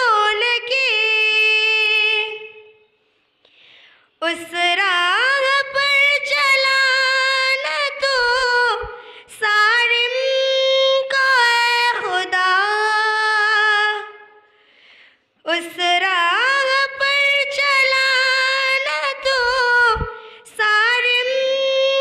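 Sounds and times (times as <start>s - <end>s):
girl singing unaccompanied: 0.0s - 2.6s, 4.2s - 14.2s, 15.4s - 22.0s.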